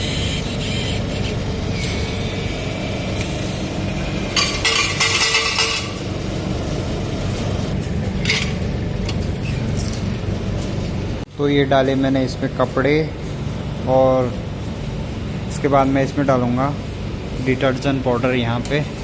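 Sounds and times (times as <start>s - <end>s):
washers and dryers humming: 0.0s - 19.0s.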